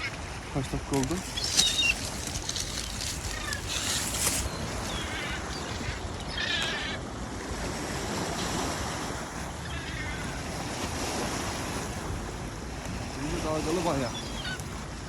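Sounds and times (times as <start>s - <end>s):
gulls calling: 0.0s - 12.2s, 13.1s - 15.0s
water rushing: 0.0s - 14.6s
wind: 0.0s - 15.0s.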